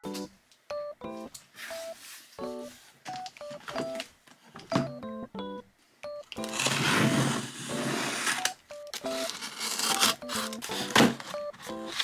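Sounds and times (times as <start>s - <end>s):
light background tune: 0.0s - 4.1s, 4.7s - 12.0s.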